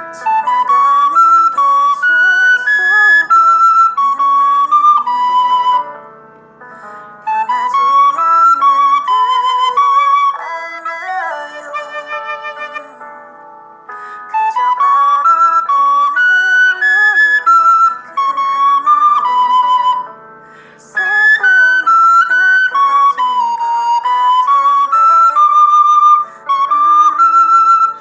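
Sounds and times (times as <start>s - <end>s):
recorder playing slow melody: 0.0s - 13.2s, 13.9s - 20.2s, 20.9s - 28.0s
soft musical accompaniment: 0.0s - 28.0s.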